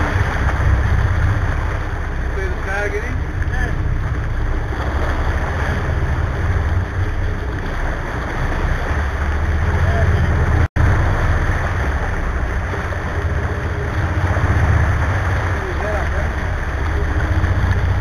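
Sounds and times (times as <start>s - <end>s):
boat engines rumbling: 0.0s - 18.0s
water rushing along hull: 0.0s - 18.0s
wind: 0.0s - 18.0s.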